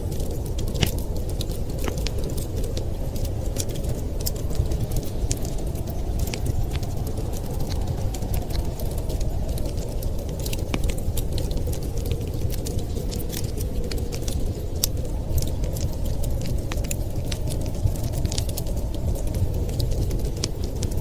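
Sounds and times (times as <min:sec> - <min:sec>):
fire crackling and popping: 0:00.0 - 0:21.0
low rush of wind: 0:00.0 - 0:21.0.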